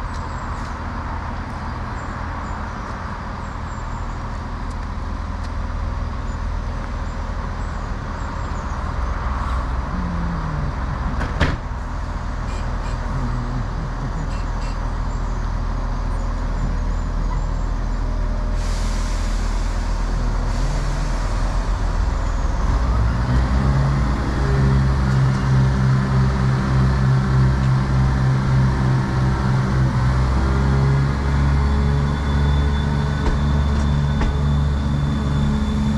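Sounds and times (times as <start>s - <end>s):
diesel train engine: 0.0s - 35.9s.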